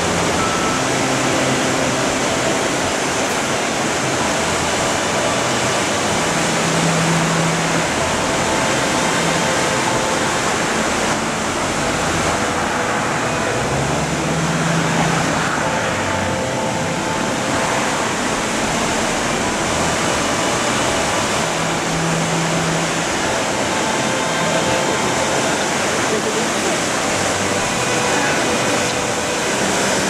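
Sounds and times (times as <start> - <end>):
water rushing over boulders: 0.0 - 30.0.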